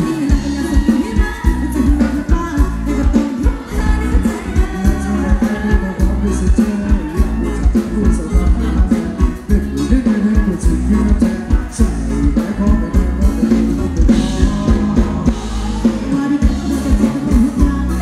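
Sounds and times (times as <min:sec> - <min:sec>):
drum beat: 0:00.0 - 0:18.0
heavy bass: 0:00.0 - 0:18.0
person singing: 0:00.0 - 0:18.0.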